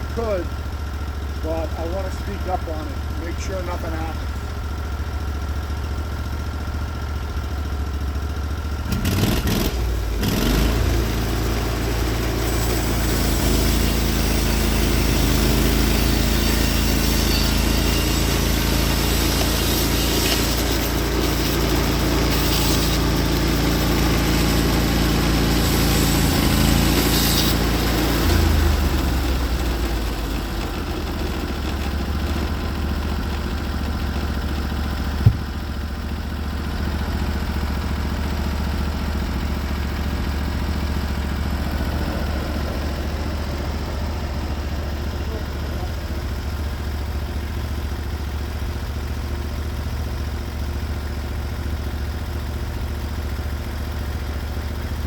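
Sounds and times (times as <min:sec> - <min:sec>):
engine clatter: 0:00.0 - 0:55.0
sawmill engine running: 0:00.0 - 0:55.0.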